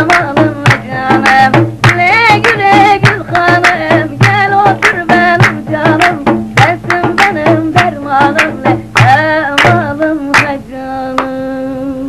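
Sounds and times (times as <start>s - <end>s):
sharp percussion beats: 0.0s - 10.6s
person singing folk song: 0.0s - 12.0s.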